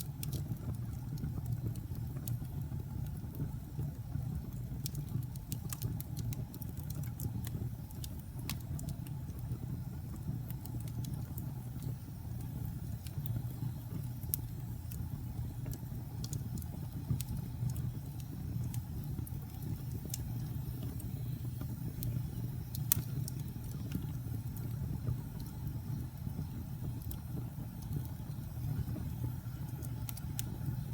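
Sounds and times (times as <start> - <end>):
wood fire crackling and popping: 0.0 - 30.9.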